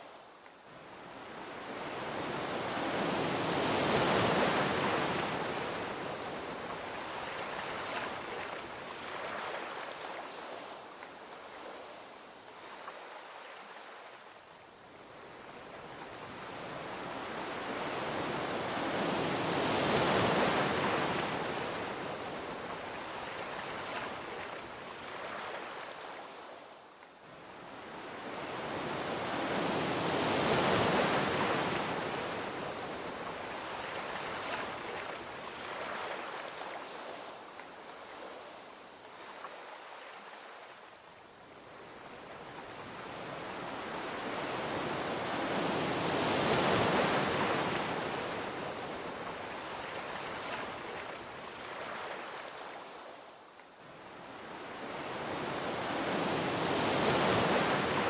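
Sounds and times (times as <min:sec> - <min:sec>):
ocean waves washing onto beach: 0:00.0 - 0:58.0.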